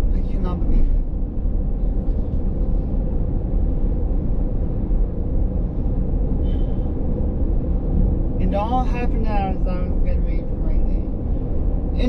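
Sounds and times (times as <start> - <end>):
road and engine rumble in cabin: 0.0 - 12.0.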